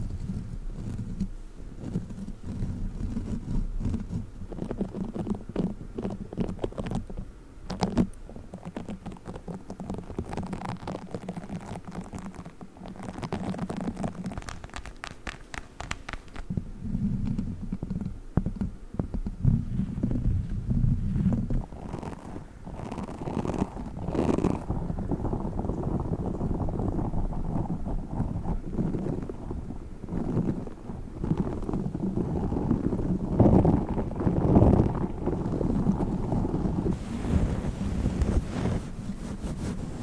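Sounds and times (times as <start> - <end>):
squishy toys rubbed on microphone: 0.0 - 7.2, 7.8 - 18.0, 19.3 - 40.0.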